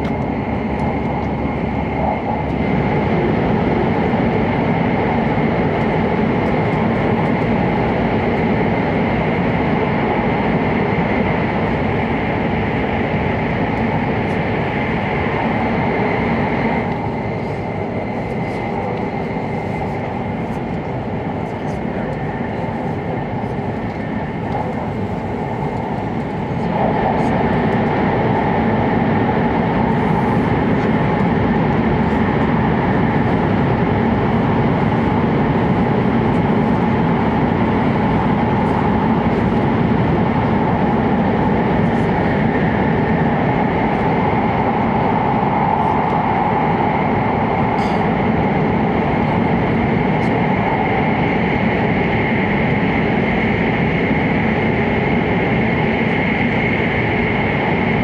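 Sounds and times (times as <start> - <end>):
train running noise inside cabin: 0.0 - 58.0.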